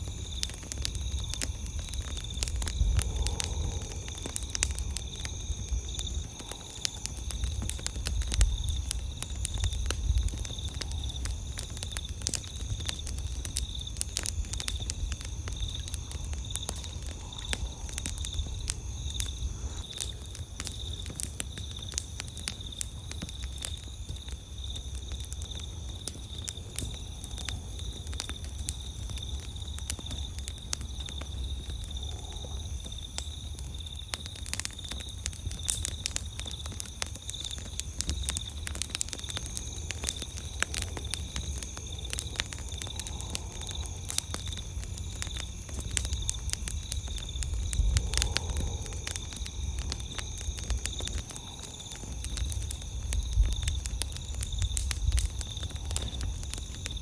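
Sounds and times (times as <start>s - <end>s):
night insects trilling: 0.0s - 57.0s
wood fire crackling: 0.0s - 57.0s.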